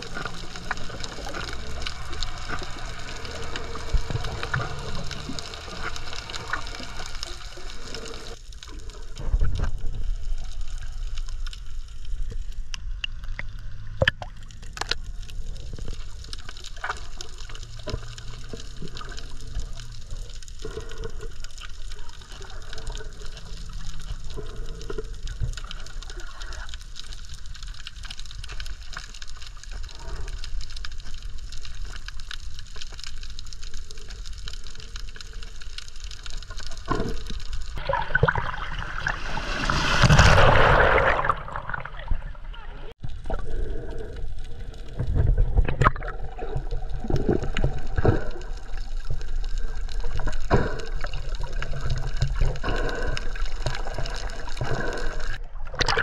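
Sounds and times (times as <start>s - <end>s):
muffled underwater rush: 0.0s - 56.0s.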